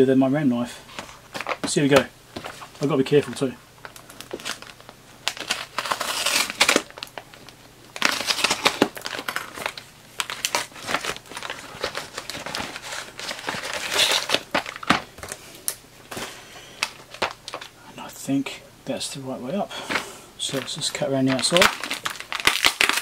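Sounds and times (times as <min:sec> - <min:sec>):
plastic and cardboard crinkling tearing: 0:00.9 - 0:17.7, 0:20.4 - 0:23.0.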